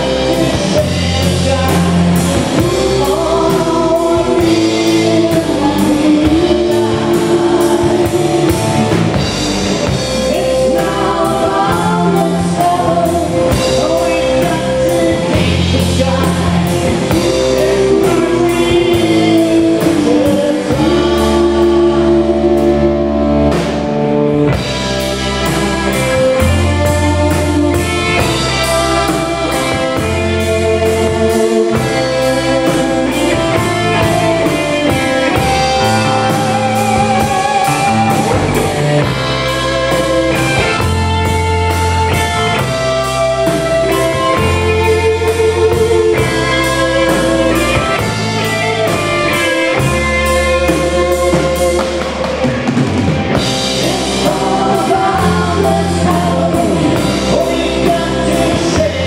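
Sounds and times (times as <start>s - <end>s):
drum kit steady beat: 0.0s - 59.0s
electric guitars: 0.0s - 59.0s
low bass notes: 0.0s - 59.0s.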